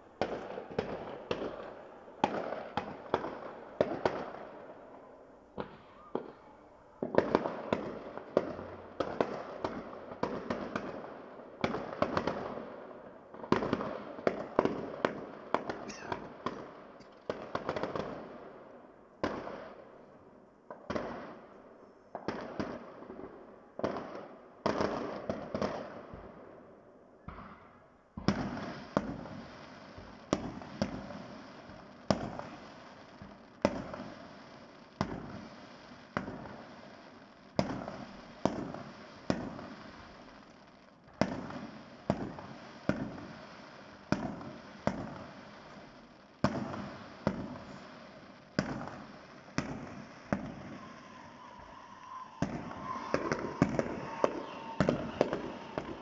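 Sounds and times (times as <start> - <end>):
fireworks bursting with echo: 0.0 - 20.0, 20.7 - 26.6, 27.2 - 56.0.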